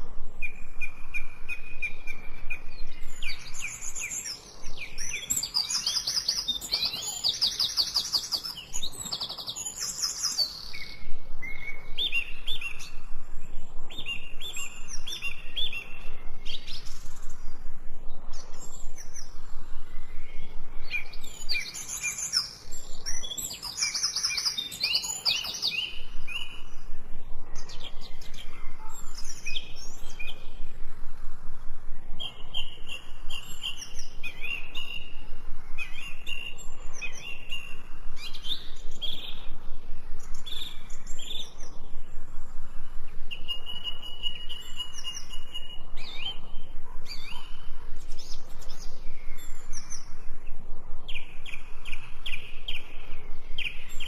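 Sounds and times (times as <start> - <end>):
songbirds chirping and singing: 0.0 - 31.0, 31.6 - 54.0.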